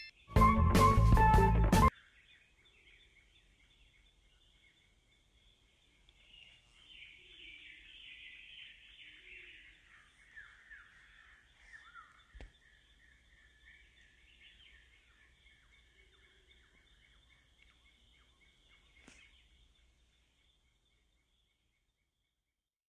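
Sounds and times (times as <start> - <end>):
small birds chirping: 0.0 - 0.4, 1.9 - 22.4.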